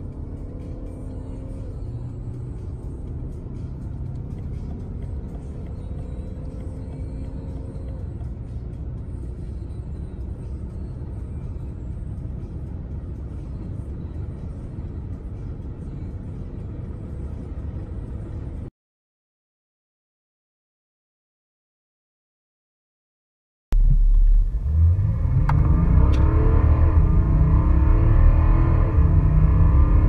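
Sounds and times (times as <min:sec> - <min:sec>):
car interior engine rumble: 0:00.0 - 0:18.7, 0:23.7 - 0:30.0.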